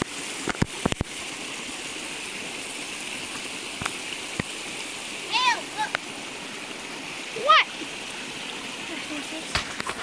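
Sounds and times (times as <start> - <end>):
creek running: 0.0 - 10.0.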